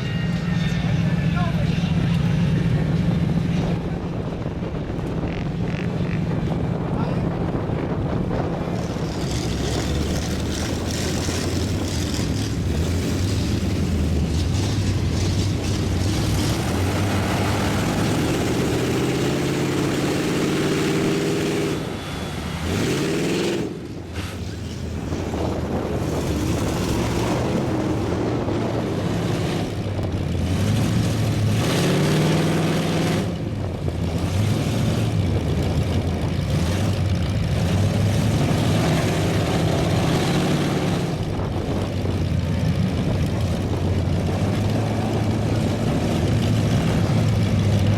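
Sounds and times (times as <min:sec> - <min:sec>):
truck engines revving hard: 0:00.0 - 0:47.9.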